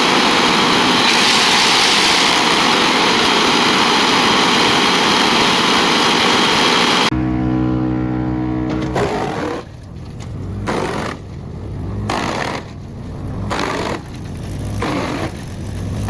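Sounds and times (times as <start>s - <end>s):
wood chipper chewing wood: 0.0s - 16.0s.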